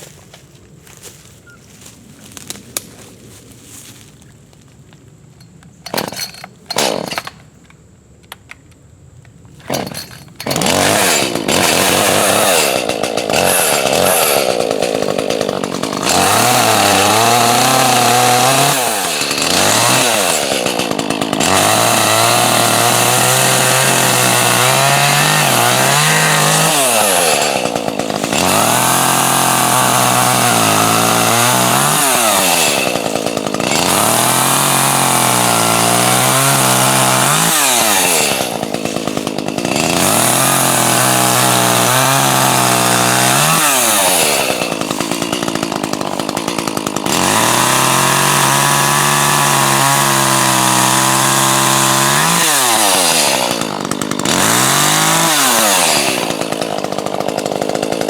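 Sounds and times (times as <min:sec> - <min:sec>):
chainsaw sputtering: 0:05.4 - 0:07.6, 0:09.6 - 0:58.0
chainsaw revving and cutting logs: 0:05.8 - 0:07.4, 0:09.6 - 0:58.0.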